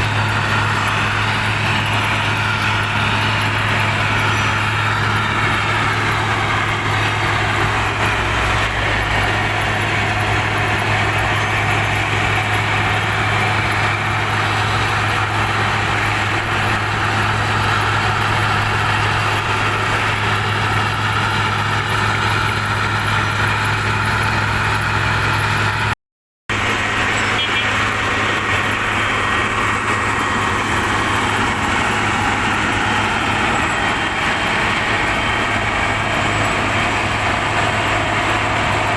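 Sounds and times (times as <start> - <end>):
heavy machine engine humming: 0.0 - 38.9.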